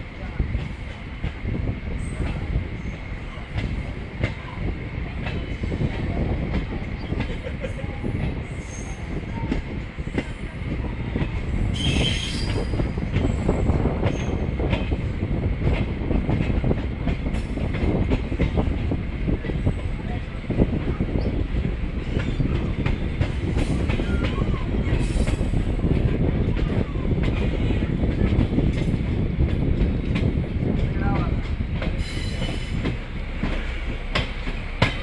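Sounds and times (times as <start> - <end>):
train rumbling on track: 0.0 - 35.0.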